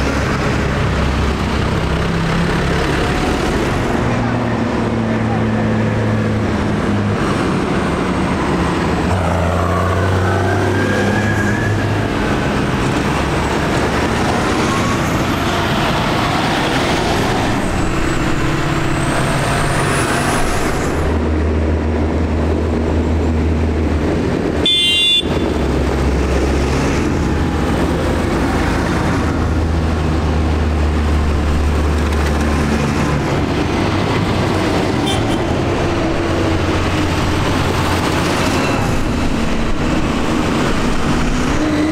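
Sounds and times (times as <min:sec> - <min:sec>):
tractor diesel engines passing: 0:00.0 - 0:41.9.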